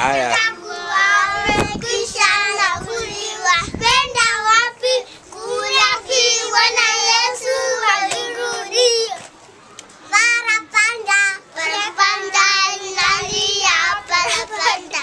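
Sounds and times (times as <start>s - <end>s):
young children singing: 0.2s - 9.3s, 10.1s - 15.0s.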